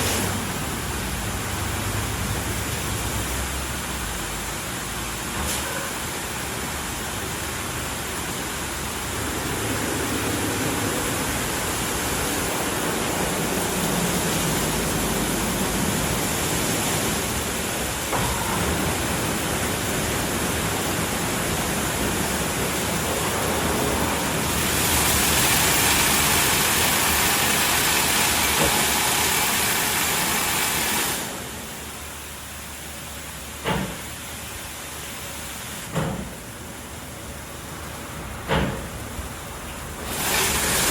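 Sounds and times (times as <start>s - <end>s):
car wash spraying water: 0.0s - 40.9s.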